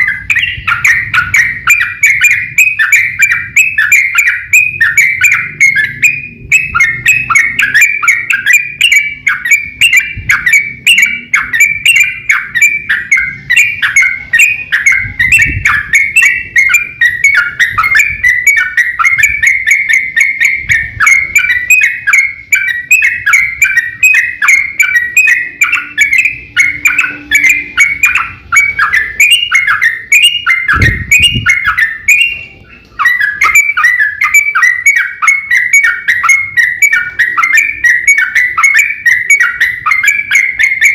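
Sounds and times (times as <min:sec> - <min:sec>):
bird singing rapid chatter: 0:00.0 - 0:40.9.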